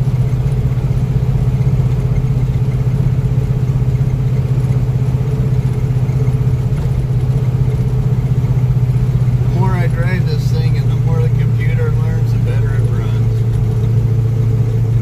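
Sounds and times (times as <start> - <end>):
car engine cruising: 0.0 - 15.0.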